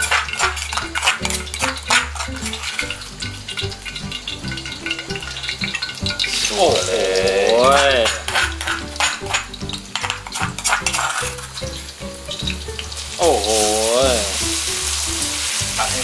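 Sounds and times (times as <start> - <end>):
clattering stirring in a wok: 0.0 - 13.6, 14.3 - 16.0
background music: 0.0 - 16.0
food sizzling in hot oil: 0.0 - 16.0.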